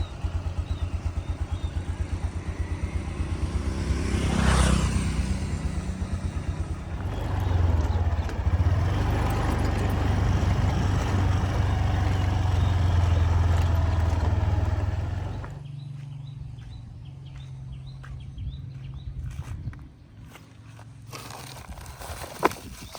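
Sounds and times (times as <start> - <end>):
engine running: 0.0 - 19.4.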